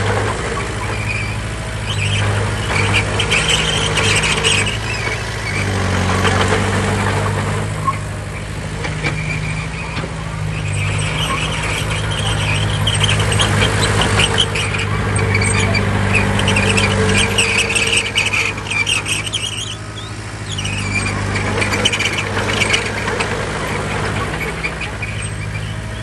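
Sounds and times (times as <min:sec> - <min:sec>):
diesel machinery engine running: 0:00.0 - 0:26.0
high squeal: 0:00.0 - 0:26.0.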